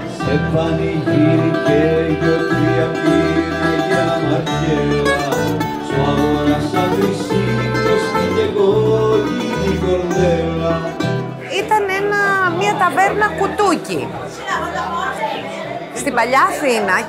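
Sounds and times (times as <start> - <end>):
man singing: 0.0 - 13.8
double bass line: 0.0 - 15.1
bouzouki melody: 0.0 - 16.0
acoustic guitar chords: 0.0 - 16.6.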